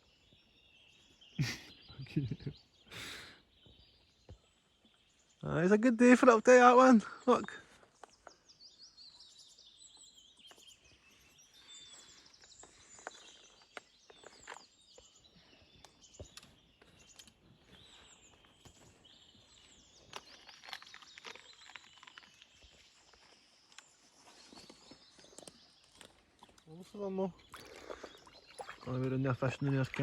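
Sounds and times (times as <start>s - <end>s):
birds chirping and trilling: 0.0s - 30.0s.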